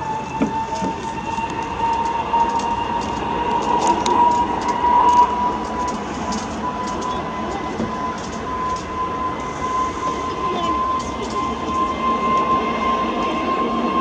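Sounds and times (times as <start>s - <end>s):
distant jet engine whine: 0.0s - 14.0s.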